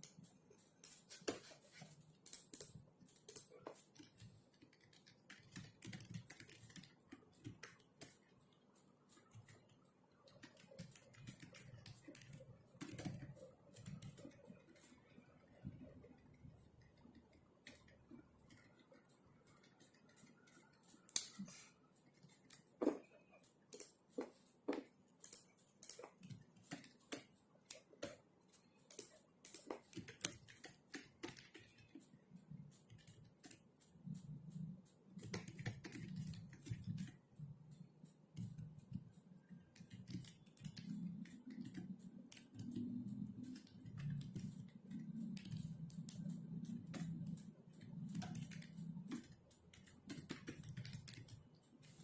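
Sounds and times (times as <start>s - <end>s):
keyboard typing: 0.0s - 52.0s.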